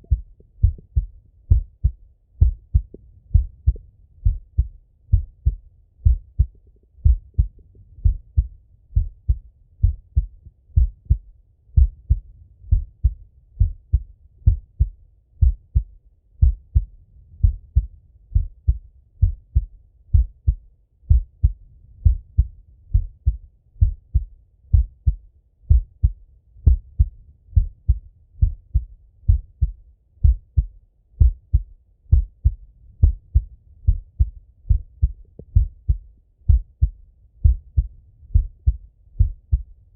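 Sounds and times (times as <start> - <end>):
heartbeat through stethoscope: 0.0 - 39.8.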